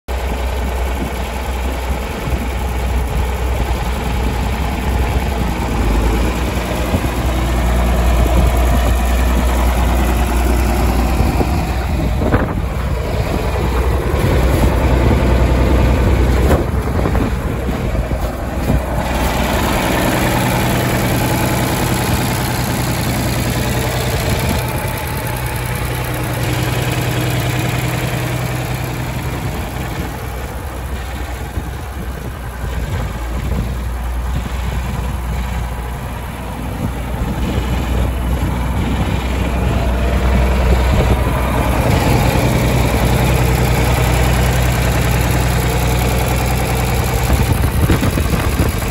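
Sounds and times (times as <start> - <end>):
diesel tractor engine idling: 0.1 - 48.9.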